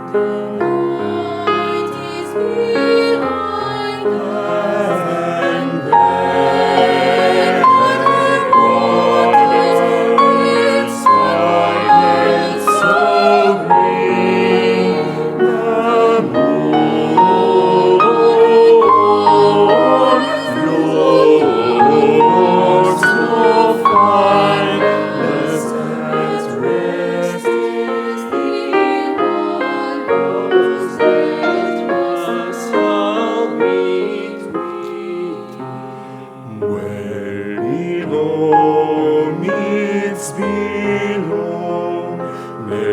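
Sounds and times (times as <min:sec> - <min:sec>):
vocal ensemble singing: 0:00.0 - 0:42.9.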